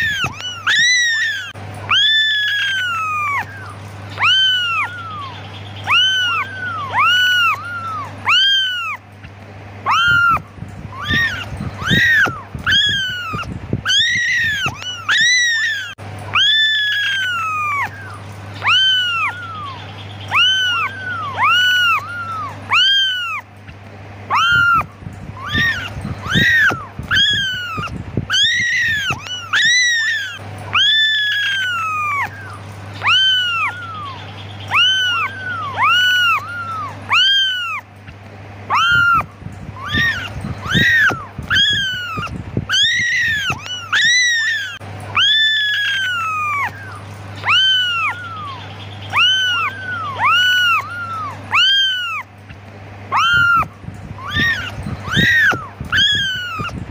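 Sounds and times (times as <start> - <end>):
kittens meowing: 0.0 - 56.9
steady low hum: 0.0 - 56.9.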